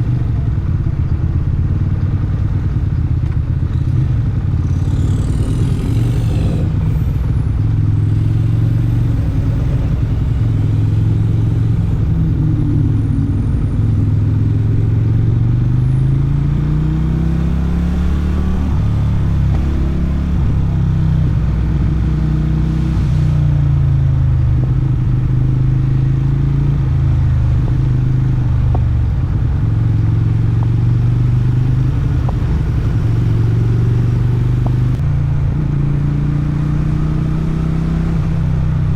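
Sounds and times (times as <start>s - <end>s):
motorcycle engine revving: 3.5s - 35.0s, 35.6s - 38.9s.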